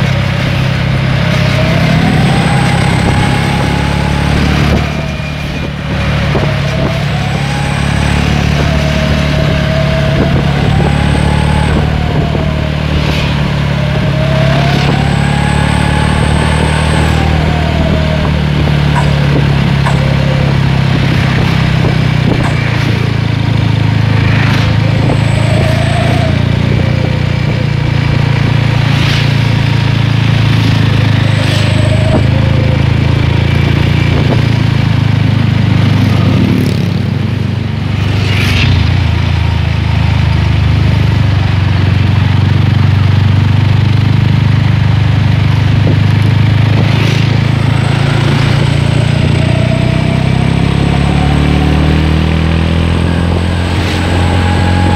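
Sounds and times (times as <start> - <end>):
rushes of noise: 0.0 - 42.9, 43.6 - 54.9
motorcycle exhaust cruising: 0.0 - 54.9.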